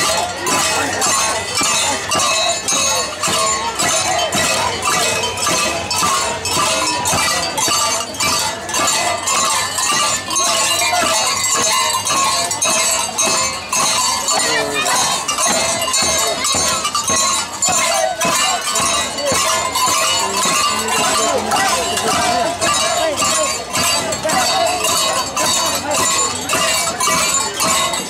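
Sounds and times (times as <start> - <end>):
hand drum beating steadily: 0.0 - 28.0.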